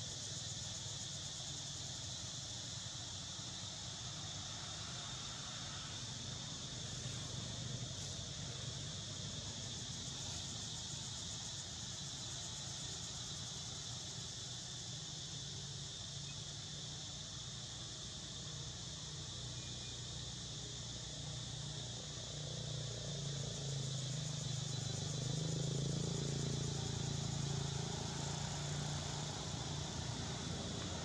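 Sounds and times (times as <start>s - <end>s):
insects chorus: 0.0s - 31.0s.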